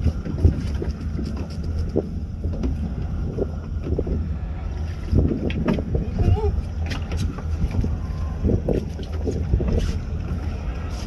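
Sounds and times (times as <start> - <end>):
boat engine humming: 0.0 - 11.0
wind noise on microphone: 0.0 - 11.0.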